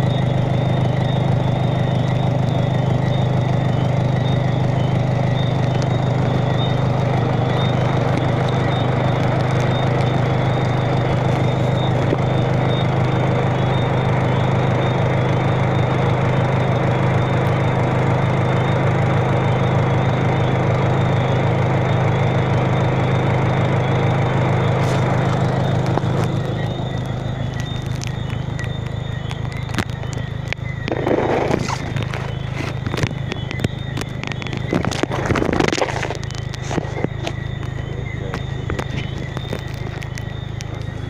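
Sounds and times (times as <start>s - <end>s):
low mechanical drone: 0.0s - 41.0s.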